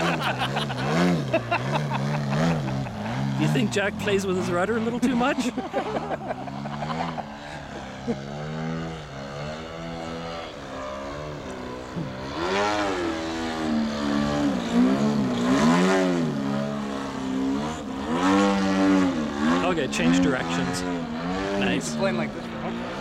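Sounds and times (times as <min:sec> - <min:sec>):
model plane engine in flight: 0:00.0 - 0:23.0.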